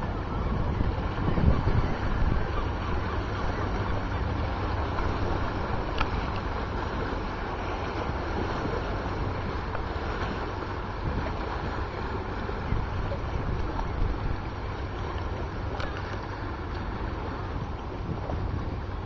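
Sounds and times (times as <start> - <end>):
wake washing against rocks: 0.0 - 19.0
wind buffeting microphone: 0.0 - 19.0.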